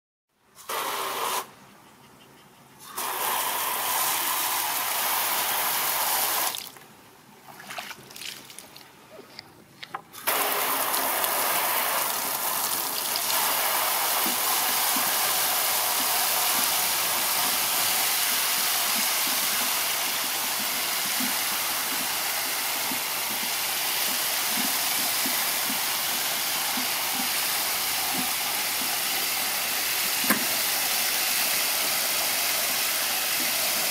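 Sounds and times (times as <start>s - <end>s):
water spray splashing into tub: 2.8s - 6.8s, 10.2s - 33.9s.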